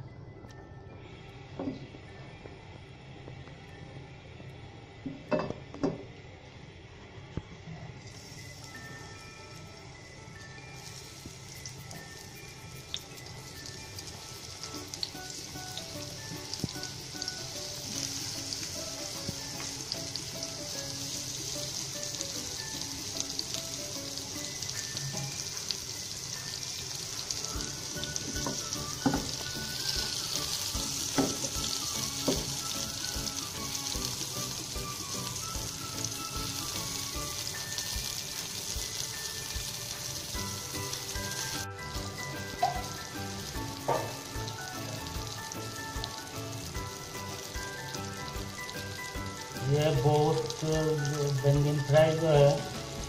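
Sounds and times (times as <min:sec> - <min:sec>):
soft background music: 0:00.0 - 0:53.0
eggplant sizzling in oil: 0:08.0 - 0:53.0.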